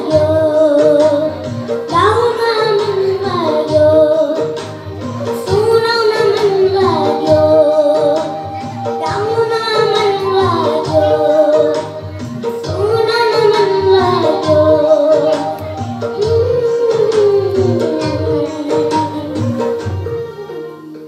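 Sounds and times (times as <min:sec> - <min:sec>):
child singing into microphone: 0:00.0 - 0:21.0
instrumental music with steady beat: 0:00.0 - 0:21.0.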